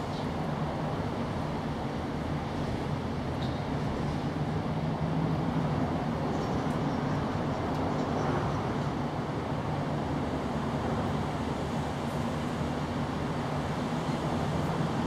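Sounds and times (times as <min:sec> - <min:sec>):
motor traffic rumble: 0:00.0 - 0:15.0.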